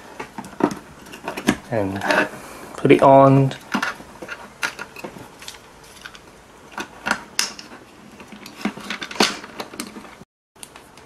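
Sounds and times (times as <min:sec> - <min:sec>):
plastic rubbing: 0:00.0 - 0:02.6, 0:03.4 - 0:10.2.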